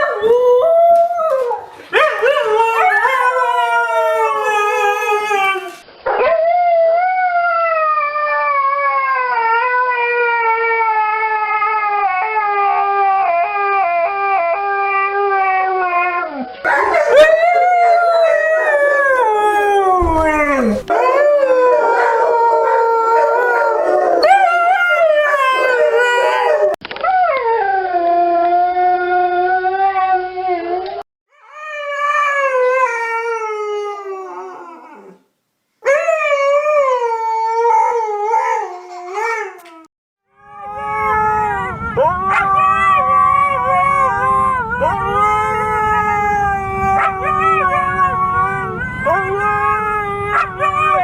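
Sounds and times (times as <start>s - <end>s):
dog howling: 0.0s - 35.2s, 35.8s - 51.0s.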